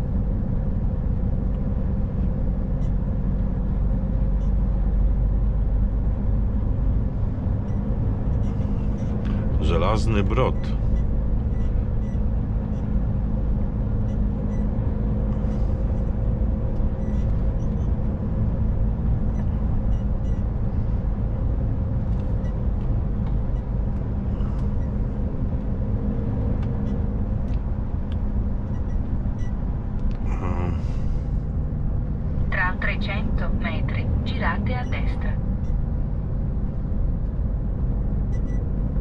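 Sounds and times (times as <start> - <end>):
diesel truck engine running: 0.0 - 39.0
road noise: 0.0 - 39.0.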